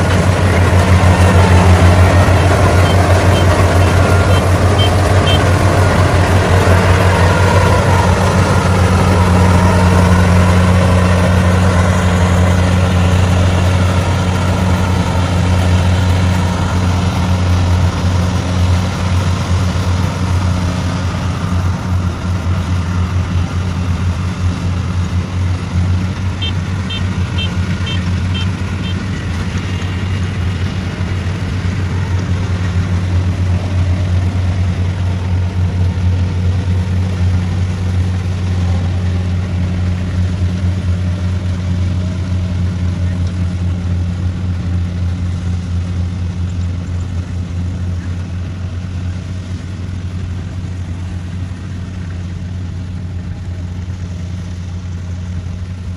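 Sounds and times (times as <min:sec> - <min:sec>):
harvester diesel engine hum: 0:00.0 - 0:55.9.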